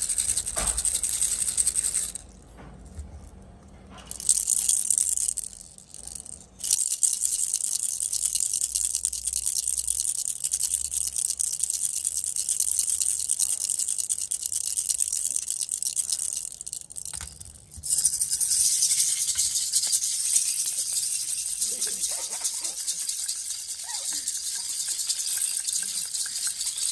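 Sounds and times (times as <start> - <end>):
baby rattle shaken: 0.0 - 2.4, 4.0 - 26.9.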